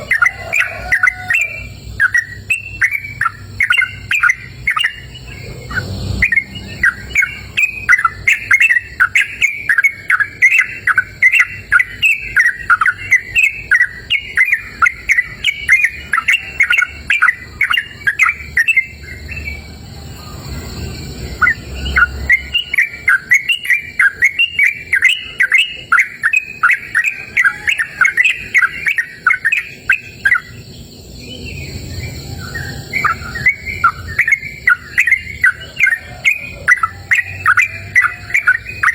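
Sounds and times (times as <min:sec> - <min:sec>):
bird singing chirping notes: 0:00.0 - 0:38.9.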